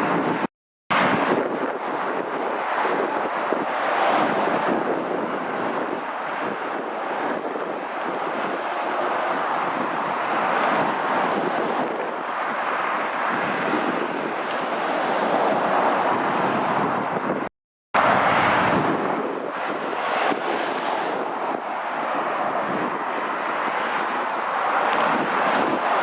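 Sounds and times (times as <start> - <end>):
road traffic and tyre noise: 0.0 - 26.0
wind buffeting microphone: 0.0 - 26.0.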